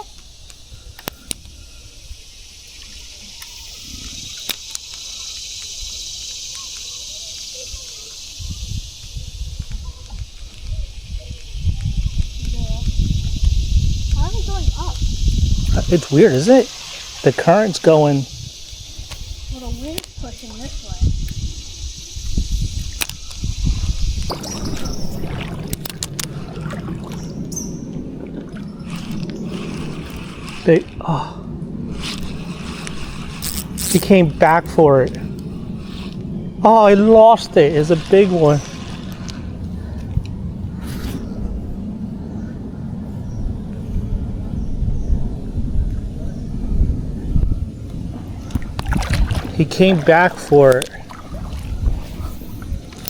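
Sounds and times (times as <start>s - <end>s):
insects chirring: 0.0s - 53.0s
water lapping against a hull: 0.0s - 53.0s
wind buffeting microphone: 0.0s - 53.0s.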